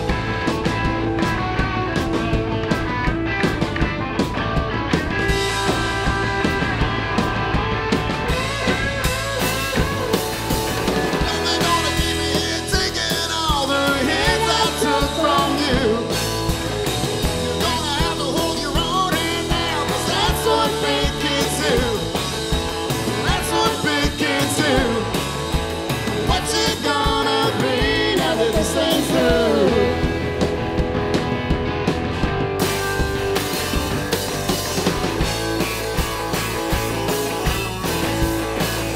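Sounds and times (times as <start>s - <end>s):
electric guitar bending notes: 0.0s - 38.9s
rock band playing: 0.0s - 38.9s.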